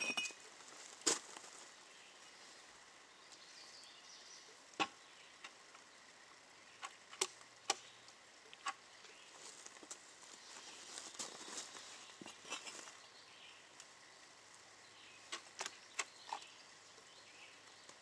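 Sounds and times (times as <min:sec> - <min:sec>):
quiet outdoor background: 0:00.0 - 0:18.0.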